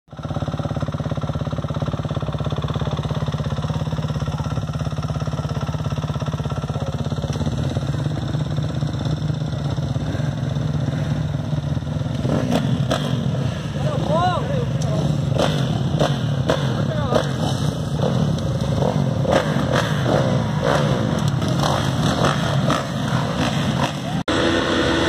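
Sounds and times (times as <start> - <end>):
motorcycle engines throbbing: 0.1 - 25.0.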